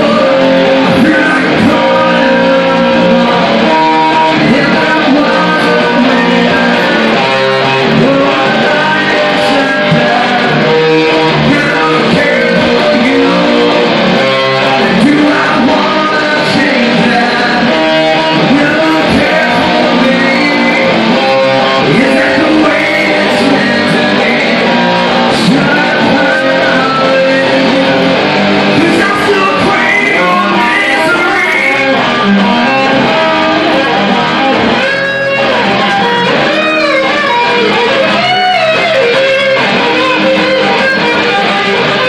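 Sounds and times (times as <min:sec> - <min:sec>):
electric guitars: 0:00.0 - 0:42.0
person singing into microphone: 0:00.0 - 0:42.0.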